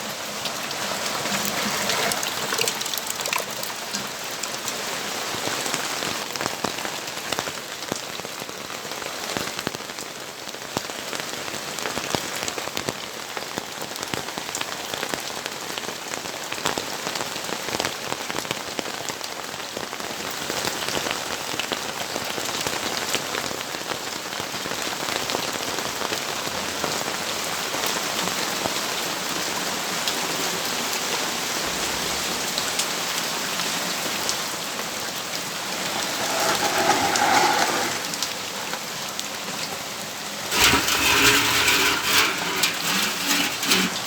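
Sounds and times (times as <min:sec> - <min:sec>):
rain pattering on surfaces: 0:00.0 - 0:35.9.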